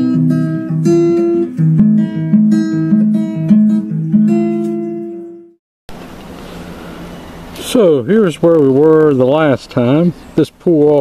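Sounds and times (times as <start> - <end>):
acoustic guitar picking: 0.0 - 10.1.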